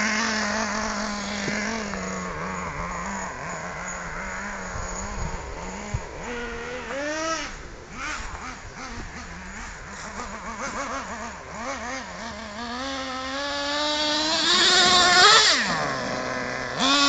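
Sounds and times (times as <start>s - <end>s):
small engine high buzz: 0.0s - 17.0s.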